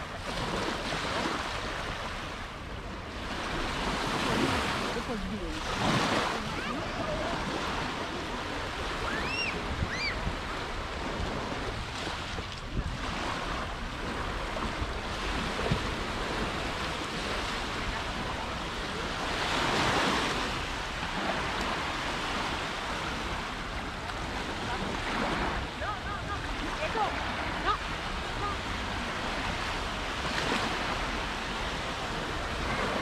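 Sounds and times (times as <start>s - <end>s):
waves washing onto beach: 0.0s - 33.0s
wind on microphone: 0.0s - 33.0s.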